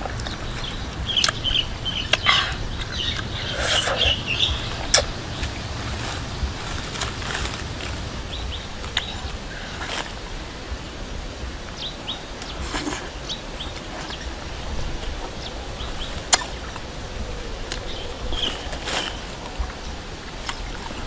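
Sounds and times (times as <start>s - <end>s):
leafy branches rustling: 0.0s - 21.0s
small birds chirping: 0.0s - 21.0s.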